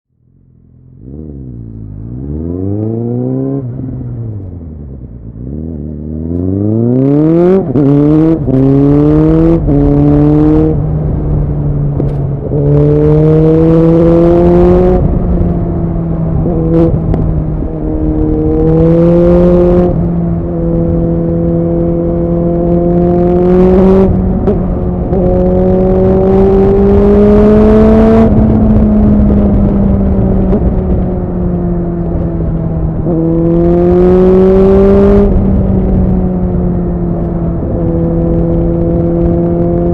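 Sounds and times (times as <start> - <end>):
motorcycle engine revving: 0.2 - 39.9.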